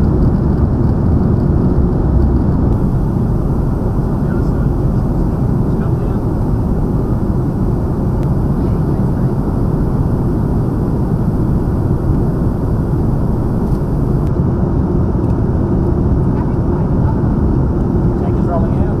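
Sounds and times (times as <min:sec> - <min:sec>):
jet engines and rushing air in cabin: 0:00.0 - 0:19.0.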